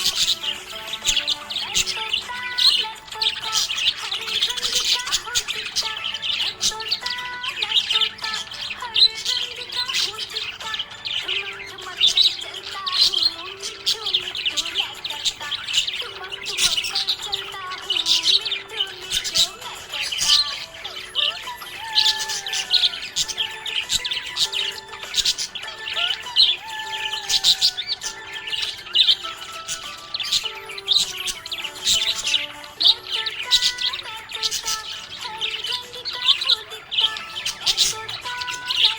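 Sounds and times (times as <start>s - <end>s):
budgerigars chirping and warbling: 0.0s - 38.9s
soft background music: 0.0s - 38.9s.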